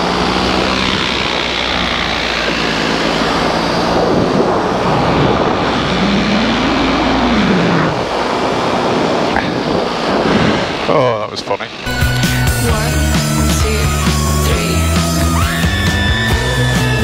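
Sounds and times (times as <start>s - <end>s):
airflow noise: 0.0s - 16.9s
paramotor engine and propeller: 0.0s - 17.0s.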